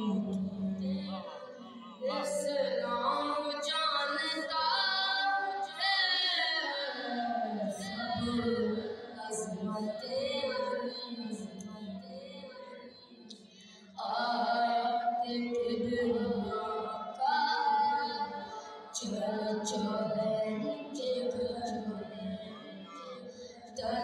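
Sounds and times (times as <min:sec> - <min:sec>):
boy singing unaccompanied: 0:00.0 - 0:13.0, 0:14.0 - 0:24.0.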